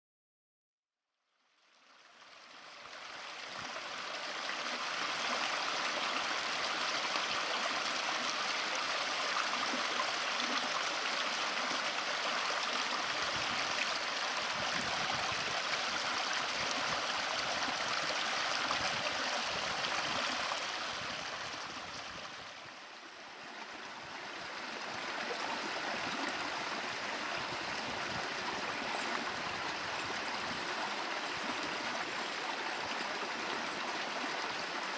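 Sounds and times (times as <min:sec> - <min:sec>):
stream flowing: 0:01.5 - 0:34.9.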